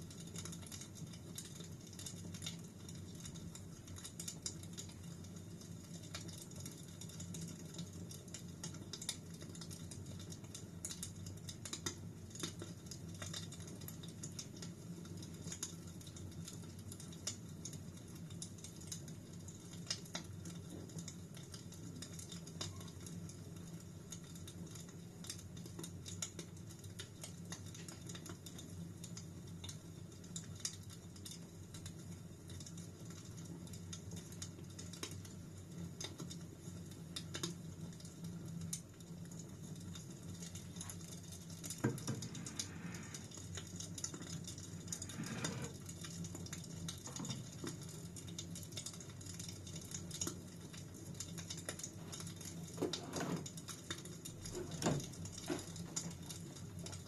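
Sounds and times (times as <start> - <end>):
low rumble of flames: 0.0 - 57.0
wood fire crackling: 0.0 - 57.0.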